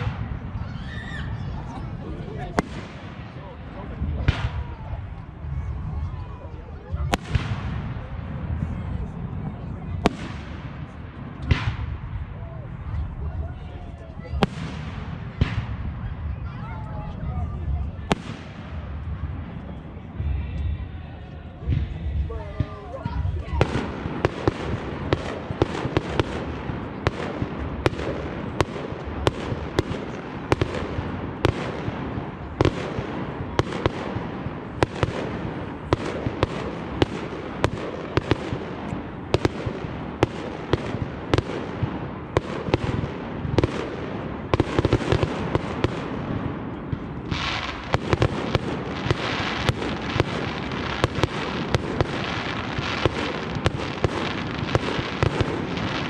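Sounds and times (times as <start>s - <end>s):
fireworks bangs: 0.0s - 20.9s, 21.6s - 56.0s
dense firework crackling: 0.0s - 56.0s
rumble of firework bursts: 0.0s - 56.0s.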